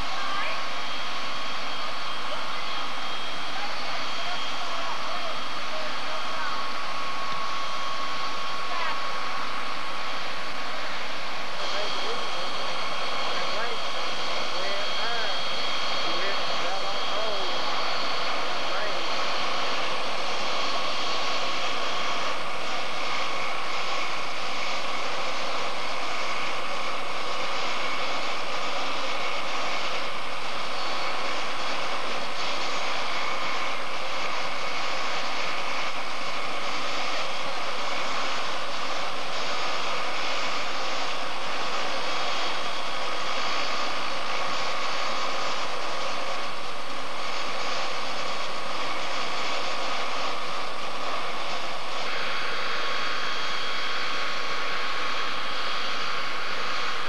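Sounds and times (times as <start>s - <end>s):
helicopter turbine whine: 0.0s - 57.0s.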